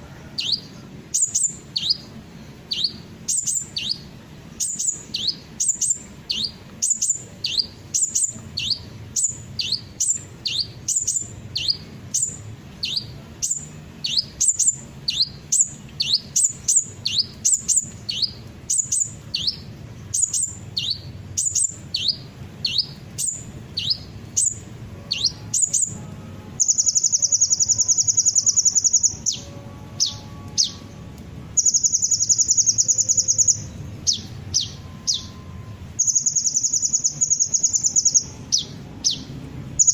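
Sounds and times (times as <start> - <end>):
sunbird rapid high trills: 0.0 - 39.9
sunbird chirps sweeping downward: 2.7 - 30.9, 31.5 - 39.9.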